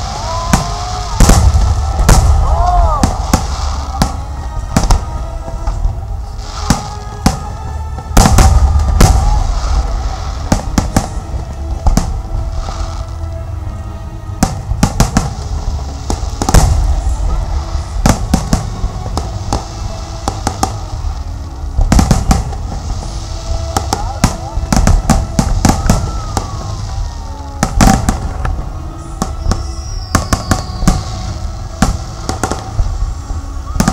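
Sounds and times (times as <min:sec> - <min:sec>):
fireworks bangs and crackling: 0:00.0 - 0:33.9
low rumble: 0:00.0 - 0:33.9
music playing: 0:00.0 - 0:33.9.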